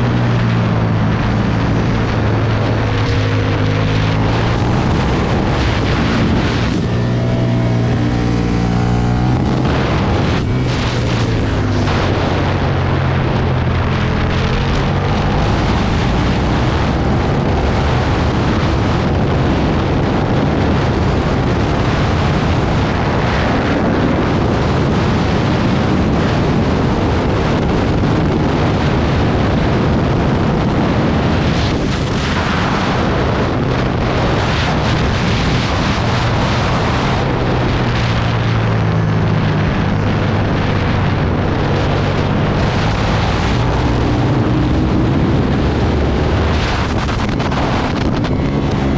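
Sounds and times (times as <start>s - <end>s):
motorcycle engine running hard: 0.0s - 48.9s
wind rushing across microphone: 0.0s - 48.9s.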